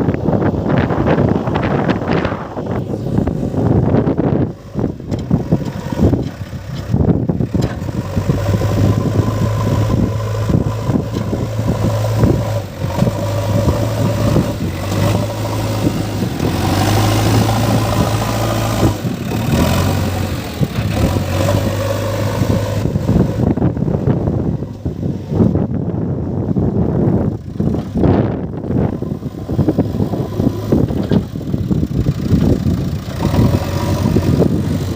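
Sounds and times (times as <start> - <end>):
diesel engine running: 0.0 - 34.9
wind noise on microphone: 0.0 - 34.9.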